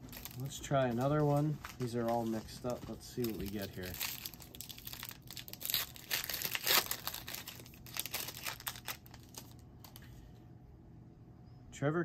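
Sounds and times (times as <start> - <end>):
wrapper torn and crinkled: 0.0 - 10.0.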